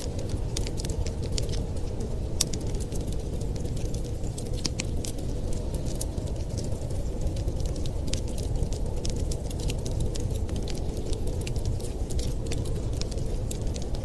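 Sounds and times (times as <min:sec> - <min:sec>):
steady low rumble: 0:00.0 - 0:14.0
wood fire crackling: 0:00.0 - 0:14.0.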